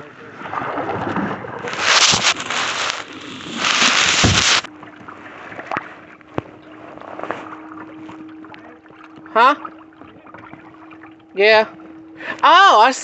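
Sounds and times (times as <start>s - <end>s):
faint steady hum: 0.0s - 13.0s
water lapping: 0.0s - 13.0s
water sloshing against kayak hull: 0.3s - 12.6s.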